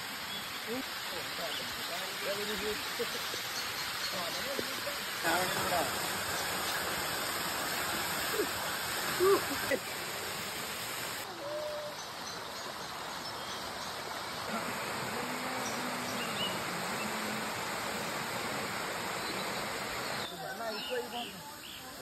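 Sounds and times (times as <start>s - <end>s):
waterfall rushing over rock: 0.0s - 11.4s, 12.0s - 20.3s.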